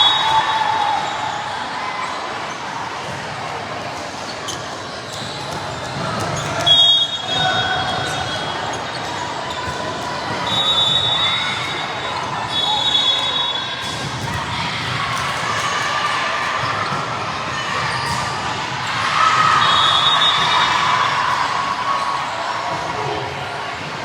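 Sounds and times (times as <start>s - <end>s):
shoe squeals: 0.0s - 2.9s, 4.2s - 14.4s, 15.6s - 23.2s
crowd chatter and calls: 0.0s - 24.0s.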